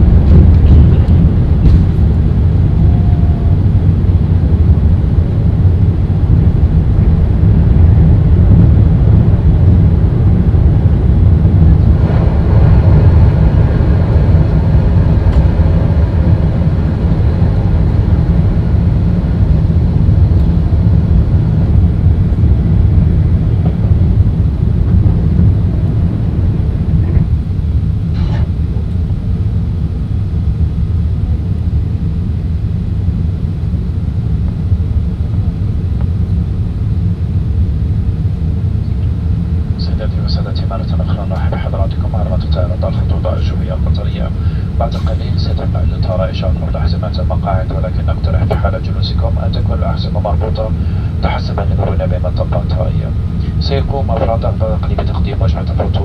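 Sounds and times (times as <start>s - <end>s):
deep engine rumble in cabin: 0.0s - 56.0s
hissing airflow noise: 0.0s - 56.0s.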